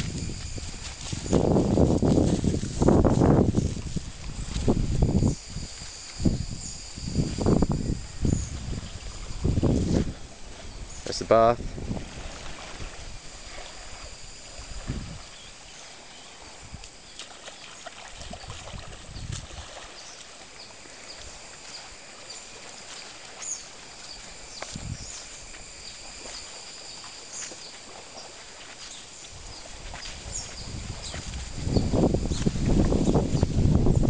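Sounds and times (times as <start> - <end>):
footsteps crunching in sand: 0.0 - 34.0
high-pitched insect buzz: 0.0 - 34.0
wind rumbling on microphone: 0.0 - 34.0.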